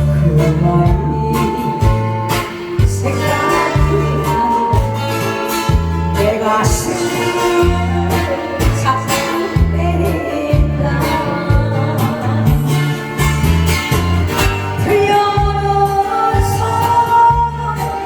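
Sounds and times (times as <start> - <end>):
person singing: 0.0 - 13.9, 14.7 - 18.0
backing music with drum beat: 0.0 - 18.0
pulsing bass line: 0.0 - 18.0.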